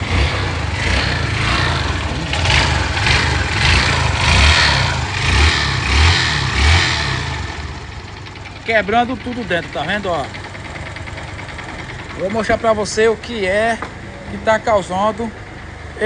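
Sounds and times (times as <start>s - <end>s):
harsh mechanical grinding noise: 0.0s - 14.4s
motorcycle engine revving: 0.0s - 16.0s.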